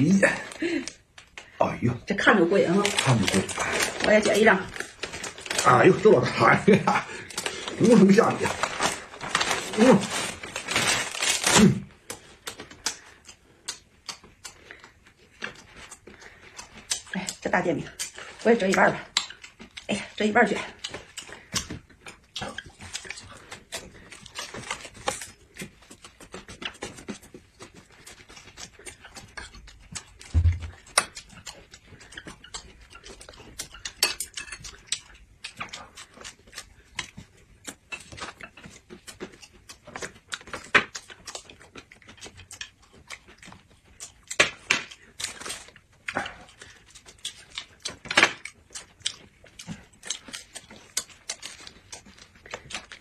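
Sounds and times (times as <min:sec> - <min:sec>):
biting and chewing: 0:02.4 - 0:53.0.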